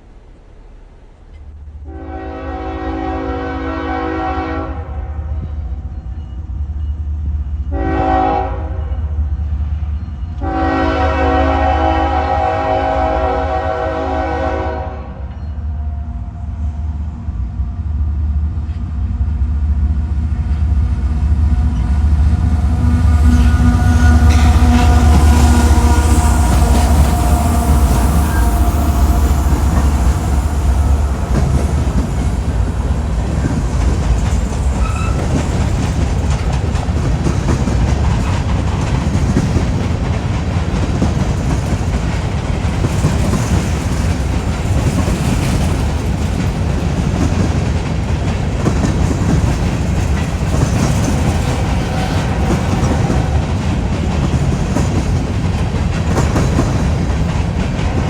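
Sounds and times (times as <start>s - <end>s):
railcars rumbling over rails: 0.0s - 58.0s.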